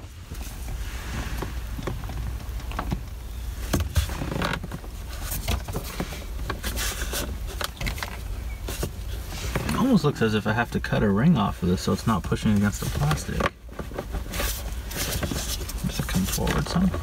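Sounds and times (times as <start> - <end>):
steady low rumble: 0.0 - 13.7.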